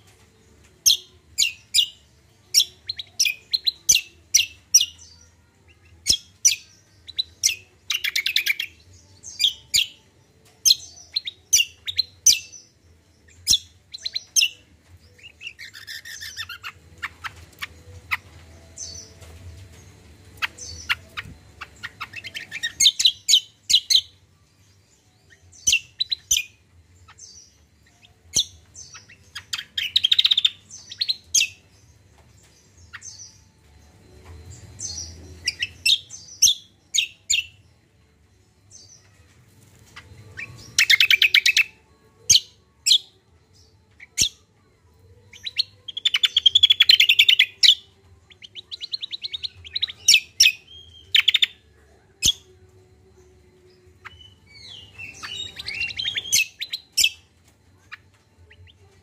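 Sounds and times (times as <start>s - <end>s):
faint low hum: 0.0s - 59.0s
songbird chirping and trilling: 0.0s - 59.0s.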